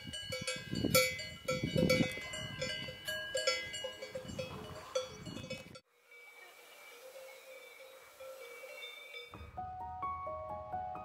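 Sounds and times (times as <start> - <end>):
livestock bells clanking: 0.0 - 9.6.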